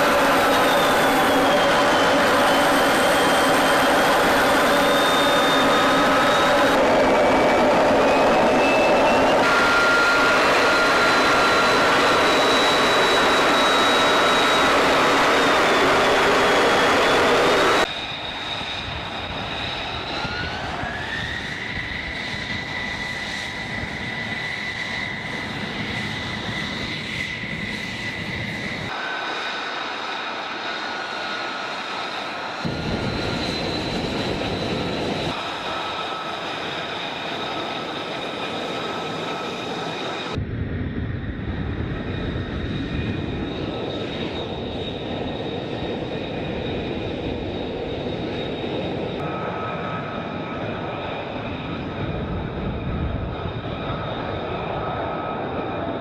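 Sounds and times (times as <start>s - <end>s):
jet aircraft in flight: 0.0s - 56.0s
jet engines whining while taxiing: 0.0s - 56.0s.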